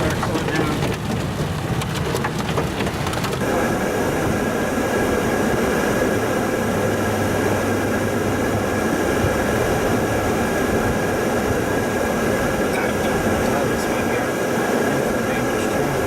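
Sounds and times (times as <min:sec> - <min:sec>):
tyre and wind noise: 0:00.0 - 0:14.2
rain on a car: 0:00.0 - 0:16.0.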